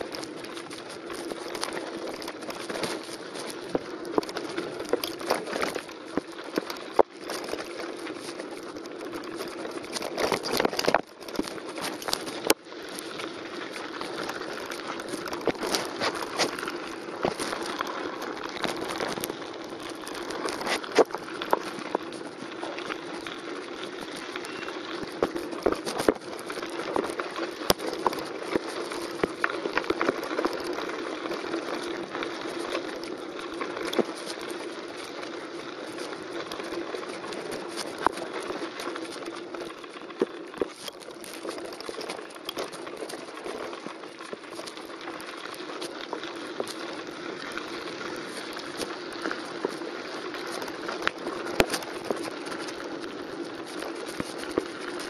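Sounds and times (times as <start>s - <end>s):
bike knocking and rattling: 0.0s - 55.0s
bike tyres crunching on gravel: 0.0s - 55.0s.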